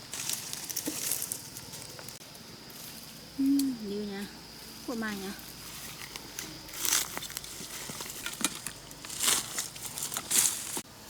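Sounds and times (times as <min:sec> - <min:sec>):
dry leaves and twigs rustling: 0:00.0 - 0:11.0.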